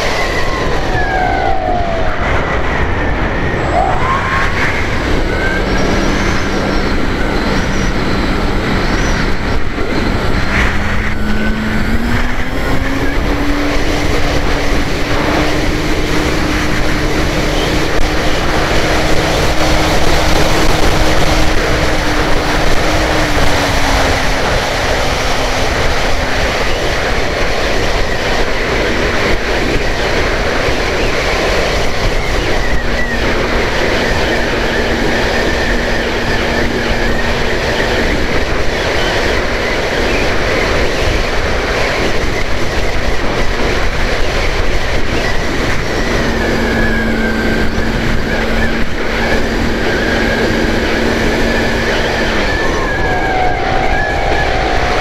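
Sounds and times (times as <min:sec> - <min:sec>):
model aeroplane propeller droning: 0:00.0 - 0:55.0
wind rush: 0:00.0 - 0:55.0.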